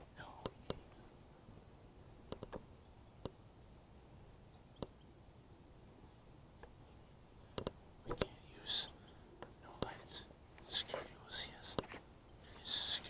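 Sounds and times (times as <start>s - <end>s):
quiet hiss: 0.0s - 13.0s.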